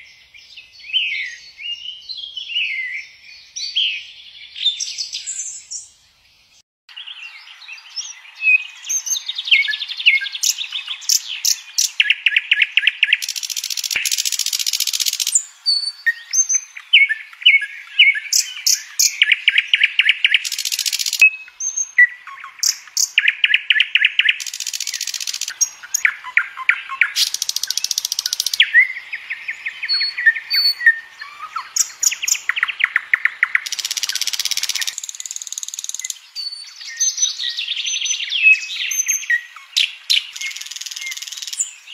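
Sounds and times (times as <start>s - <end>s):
bird trills: 7.0s - 41.8s
bird chirps and whistles: 8.0s - 41.8s.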